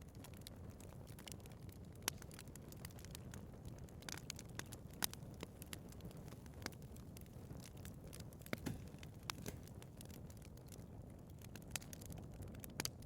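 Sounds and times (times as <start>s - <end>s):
burning logs crackling and popping: 0.0s - 13.0s
low rumble of flame: 0.0s - 13.0s.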